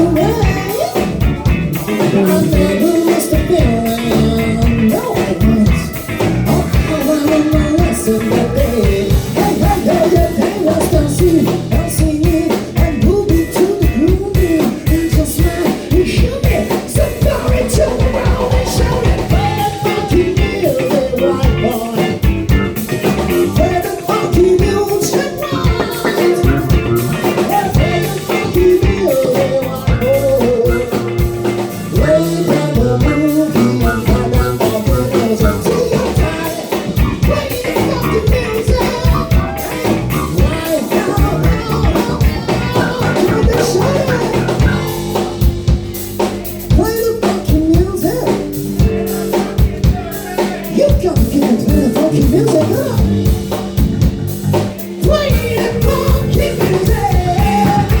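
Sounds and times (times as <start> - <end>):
band playing funk: 0.0 - 58.0
bass: 0.0 - 58.0
drum kit beat: 0.0 - 58.0.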